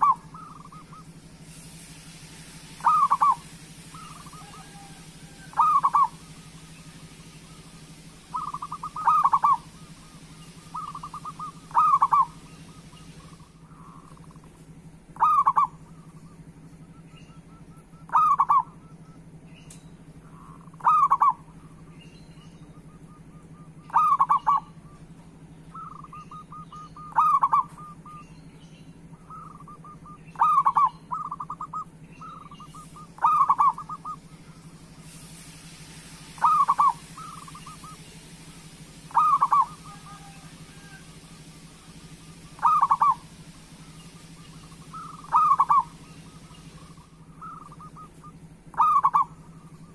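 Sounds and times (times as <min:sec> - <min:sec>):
dove cooing: 0:00.0 - 0:01.4, 0:02.7 - 0:16.2, 0:16.8 - 0:19.1, 0:20.2 - 0:21.9, 0:22.7 - 0:28.4, 0:29.0 - 0:34.8, 0:36.1 - 0:49.9.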